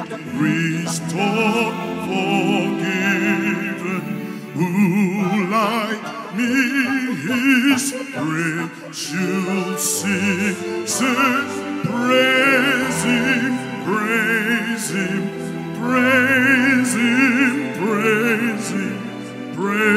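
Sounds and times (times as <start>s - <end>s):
person singing operatically: 0.0s - 19.9s
sustained instrumental accompaniment: 0.0s - 19.9s.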